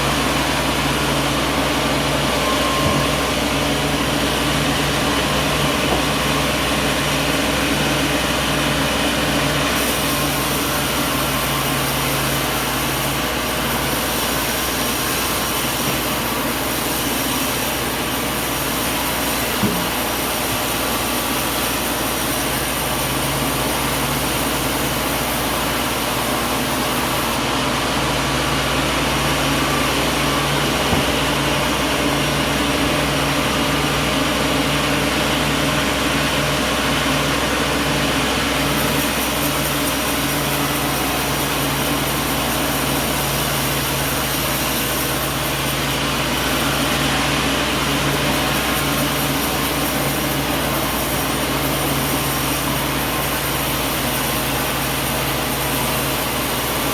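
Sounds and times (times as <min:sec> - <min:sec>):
sawmill machinery droning: 0:00.0 - 0:56.9.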